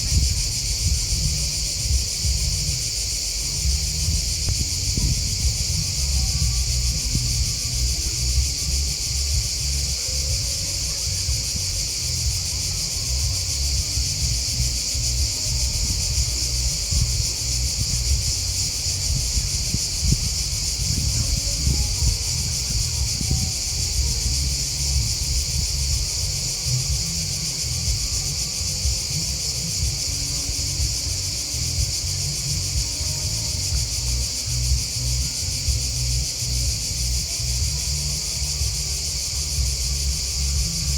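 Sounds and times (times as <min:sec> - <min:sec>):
crickets and grasshoppers chirping: 0:00.0 - 0:40.9
low rumble: 0:00.0 - 0:40.9.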